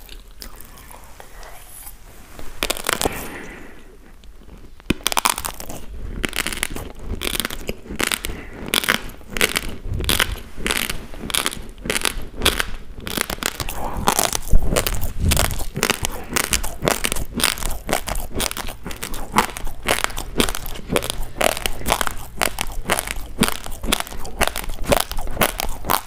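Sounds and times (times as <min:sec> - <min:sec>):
dry rice crunching while chewing: 0:02.6 - 0:26.0.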